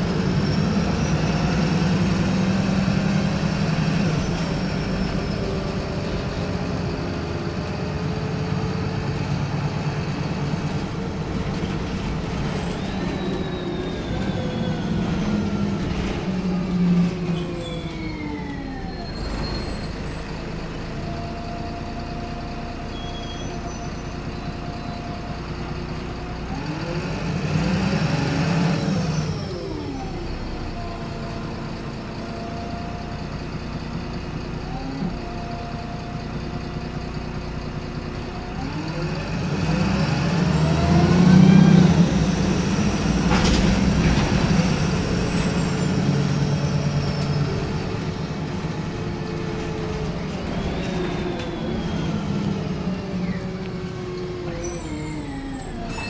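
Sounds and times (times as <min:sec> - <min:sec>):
bus engine accelerating: 0:00.0 - 0:56.0.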